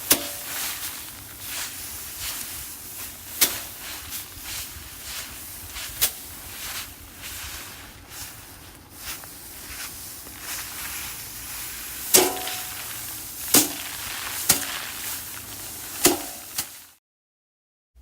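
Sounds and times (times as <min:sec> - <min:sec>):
rustling of straw and grain: 0:00.0 - 0:17.0
sheaves whacking threshing frame: 0:00.0 - 0:17.0.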